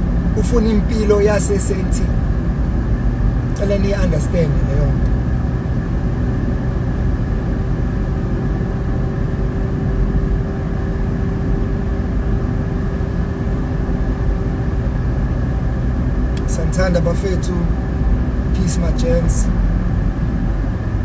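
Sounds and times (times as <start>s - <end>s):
car cabin road rumble: 0.0s - 21.0s
faint steady hum: 0.0s - 21.0s.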